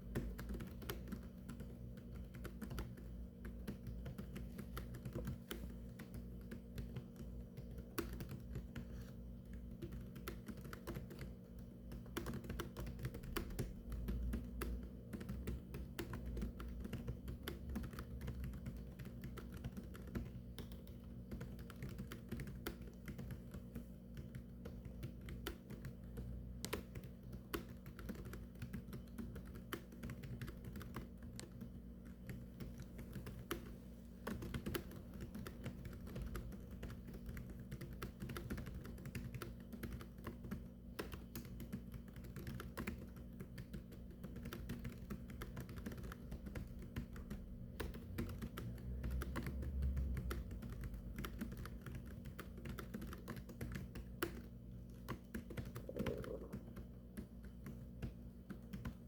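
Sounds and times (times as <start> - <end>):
keyboard typing clicks: 0.0 - 59.0.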